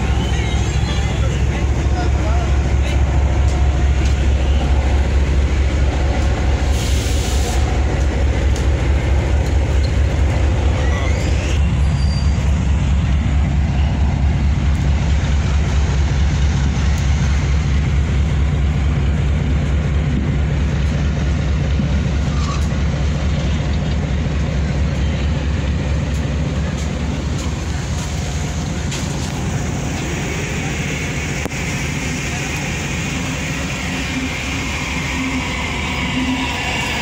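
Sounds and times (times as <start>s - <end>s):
train rumbling slowly: 0.0s - 37.0s.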